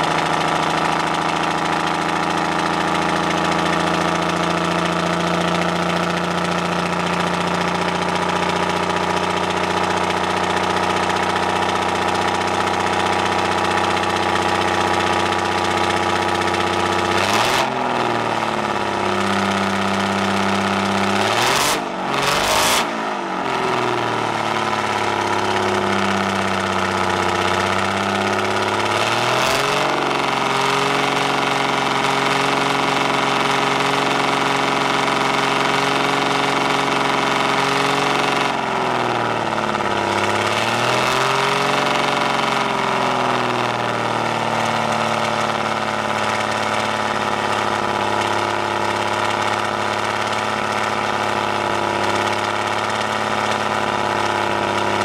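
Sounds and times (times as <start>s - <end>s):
diesel bus engine idling and revving: 0.0s - 55.0s.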